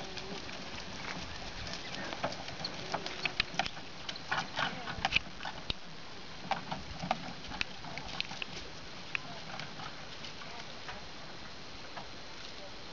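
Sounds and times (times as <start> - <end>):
hooves tapping on grass: 0.0 - 11.0
background hiss: 0.0 - 12.9.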